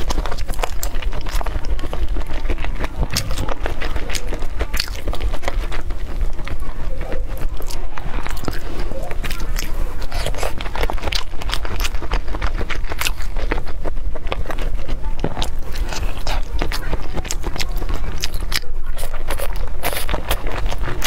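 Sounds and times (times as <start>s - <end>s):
close-miked eating and chewing: 0.0s - 21.0s
steady low hum: 0.0s - 21.0s
sticky mouth clicks: 0.0s - 21.0s.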